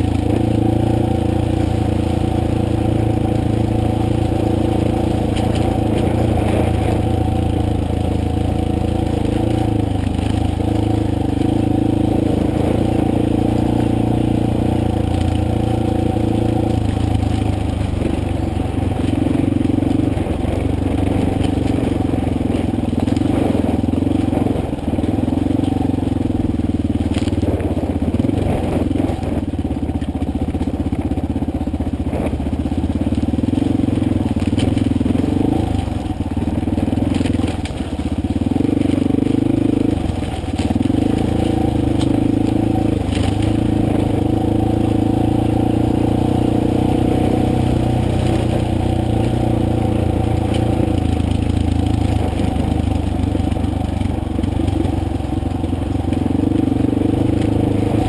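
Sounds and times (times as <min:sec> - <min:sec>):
motorcycle engine running: 0:00.0 - 0:58.0
stones crunching under tyres: 0:00.0 - 0:58.0.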